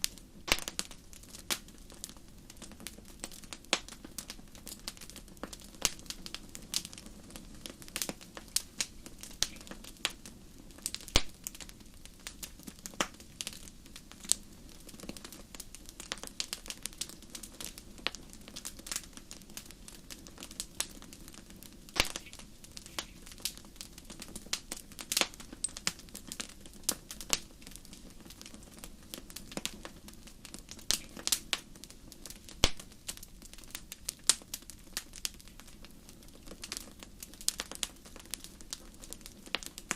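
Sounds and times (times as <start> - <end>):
fire crackling in fireplace: 0.0 - 39.9
low steady background noise: 0.0 - 39.9.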